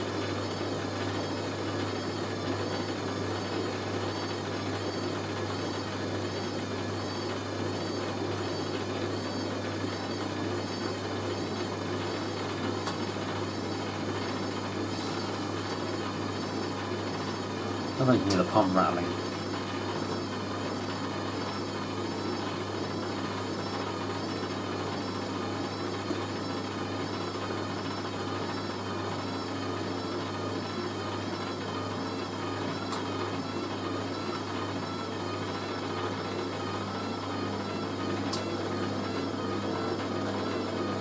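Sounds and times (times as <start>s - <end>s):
drain pump humming: 0.0s - 41.0s
washing machine motor whine: 0.0s - 41.0s.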